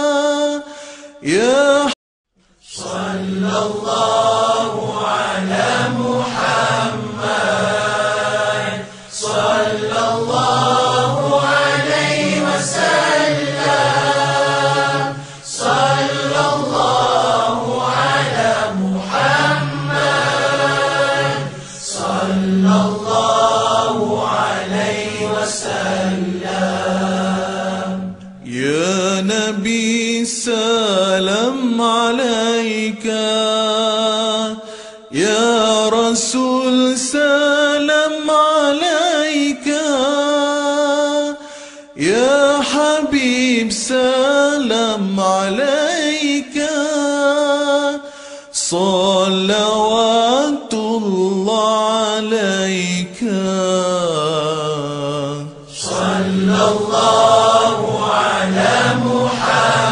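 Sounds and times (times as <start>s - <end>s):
voices chanting devotional song: 0.0s - 59.9s.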